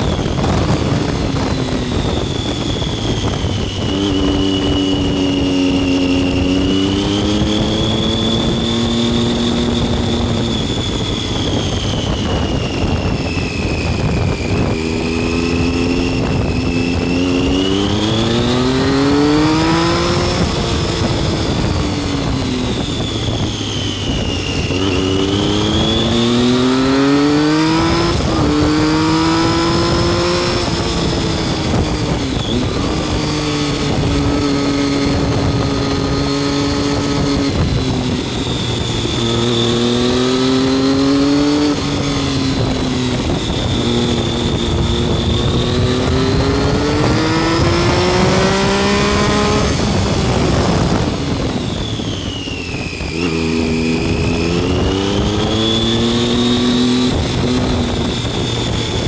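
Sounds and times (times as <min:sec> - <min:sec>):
motorcycle engine accelerating: 0:00.0 - 0:59.0
wind noise on microphone: 0:00.0 - 0:59.0.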